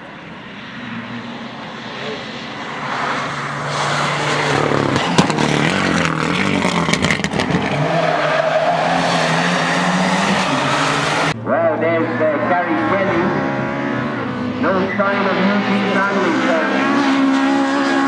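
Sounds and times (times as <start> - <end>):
rally car engine revving: 0.8 - 18.0.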